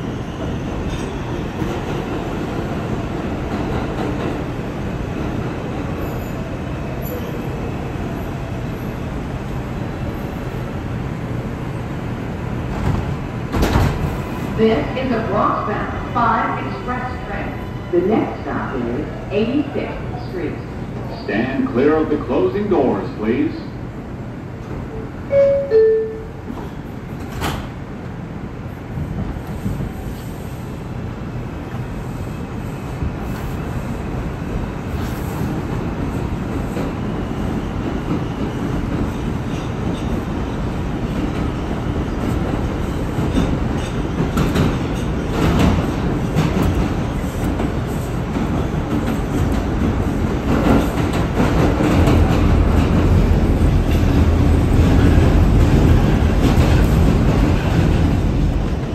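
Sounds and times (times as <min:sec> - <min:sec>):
train wheels rumbling on rails: 0:00.0 - 0:17.6, 0:26.4 - 0:58.9.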